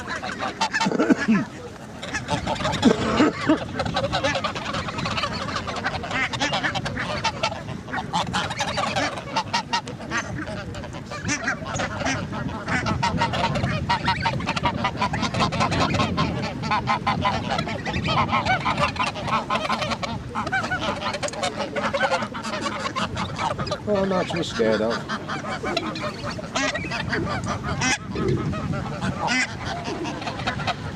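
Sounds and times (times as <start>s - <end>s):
geese and ducks honking: 0.0s - 30.9s.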